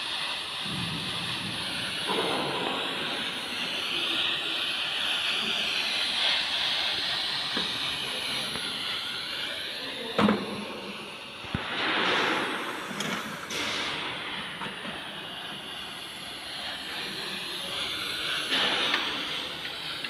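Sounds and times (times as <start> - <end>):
welding arc hissing: 0.0 - 20.0.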